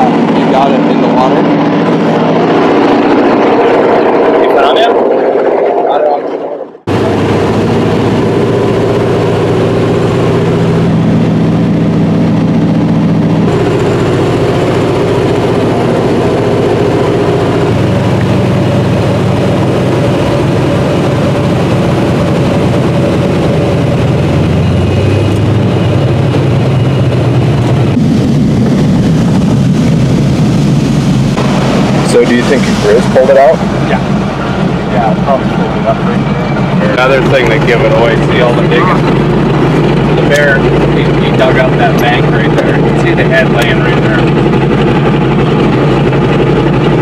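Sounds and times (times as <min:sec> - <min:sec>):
plane engine and propeller: 0:00.0 - 0:47.0.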